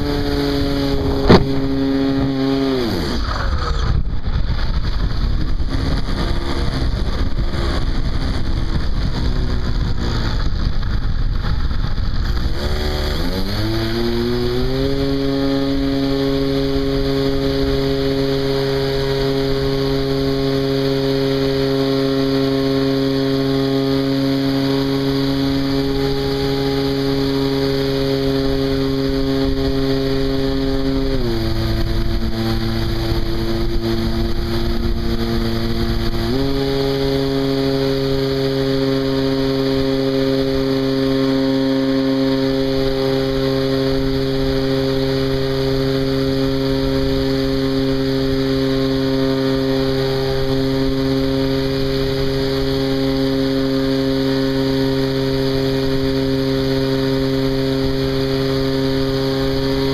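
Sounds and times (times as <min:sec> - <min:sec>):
model plane engine and propeller: 0:00.0 - 0:59.9.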